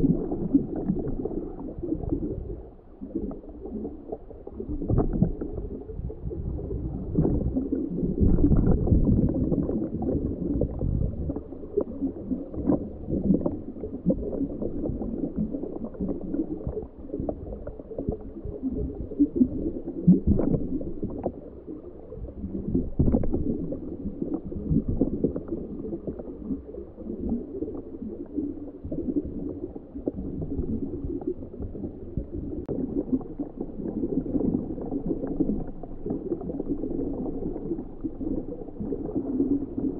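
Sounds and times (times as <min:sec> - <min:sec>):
crackles and pops: 0:00.0 - 0:39.9
muffled underwater gurgling: 0:00.0 - 0:39.9.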